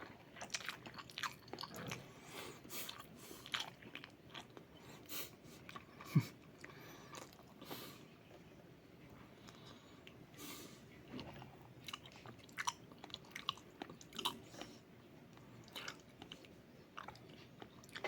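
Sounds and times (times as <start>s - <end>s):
person chewing: 0.0s - 8.4s, 11.1s - 18.0s.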